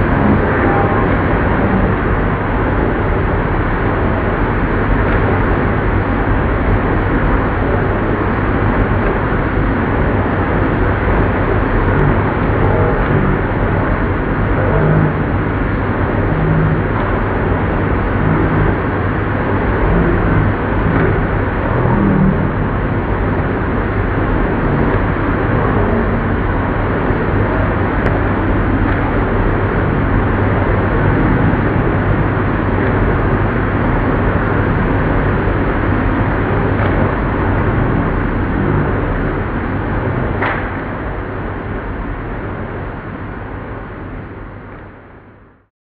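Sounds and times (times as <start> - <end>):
low hum: 0.0 - 45.7.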